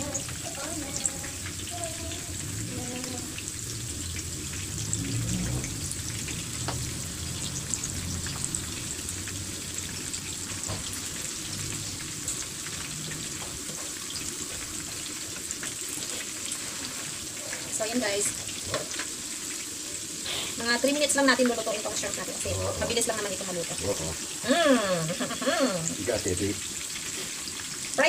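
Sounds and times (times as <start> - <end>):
shrimp frying in hot oil: 0.0 - 28.0.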